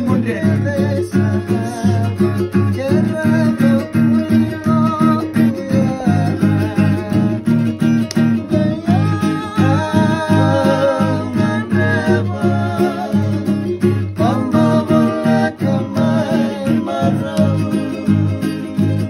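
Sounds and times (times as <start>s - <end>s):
acoustic guitar strumming: 0.0s - 19.0s
people singing: 0.0s - 19.0s.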